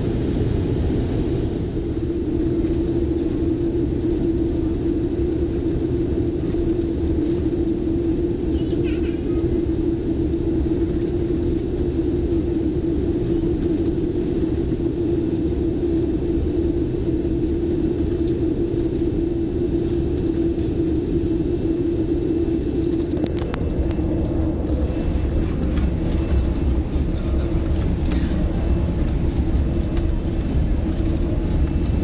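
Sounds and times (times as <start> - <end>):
aircraft cabin engine rumble: 0.0 - 32.0
constant hum: 0.0 - 32.0.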